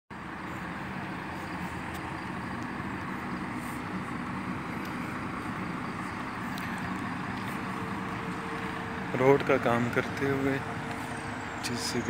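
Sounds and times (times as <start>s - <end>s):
diesel engine running steadily: 0.1s - 12.0s.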